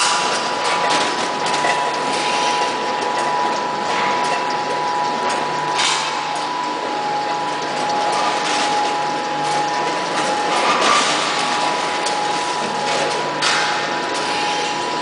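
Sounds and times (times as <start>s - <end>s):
machine whine: 0.0s - 15.0s
packing machine whirring and clattering: 0.0s - 15.0s.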